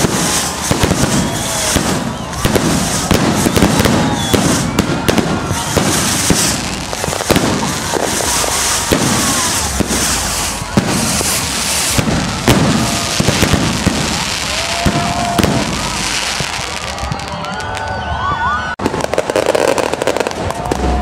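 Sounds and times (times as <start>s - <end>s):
firework whistles gliding in pitch: 0.0s - 21.0s
fireworks bangs and crackling: 0.0s - 21.0s.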